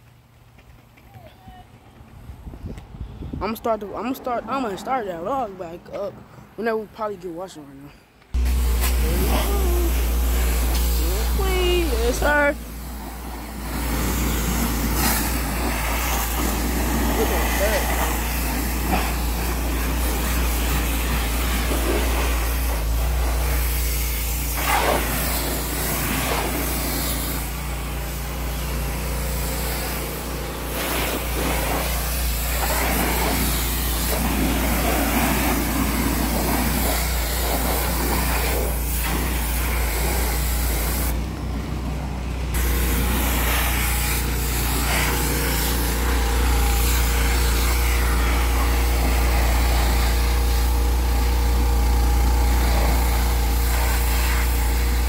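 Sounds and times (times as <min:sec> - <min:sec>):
pressure washer motor hum: 0:08.3 - 0:55.0
pressure washer spraying water: 0:08.4 - 0:41.8, 0:42.5 - 0:55.0.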